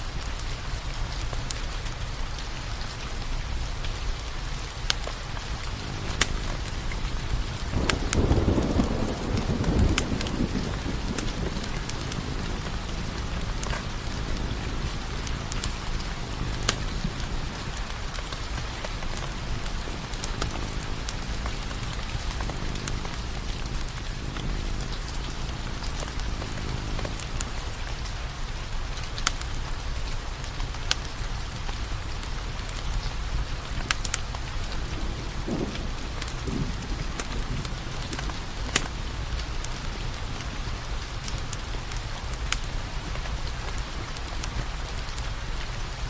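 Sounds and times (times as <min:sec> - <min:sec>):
firewood popping and crackling: 0:00.0 - 0:46.0
rain hiss: 0:00.0 - 0:46.0.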